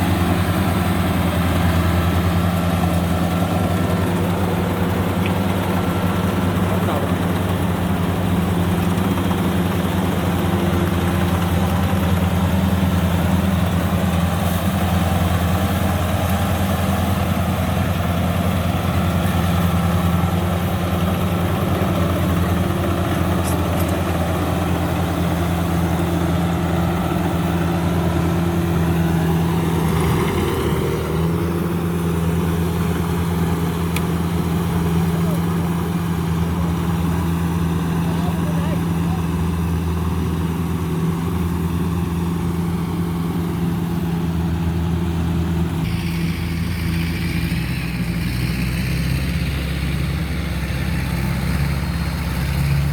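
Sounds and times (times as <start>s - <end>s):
combine harvester engine running: 0.0s - 52.9s.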